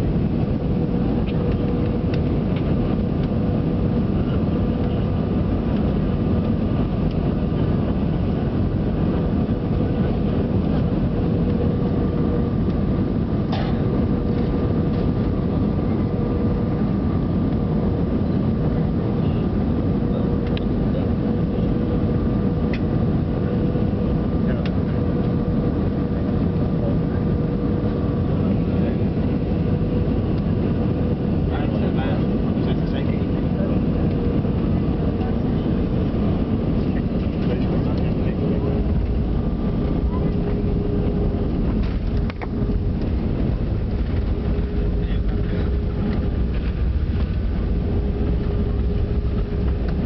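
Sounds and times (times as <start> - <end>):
jet cabin engine drone: 0.0 - 50.0.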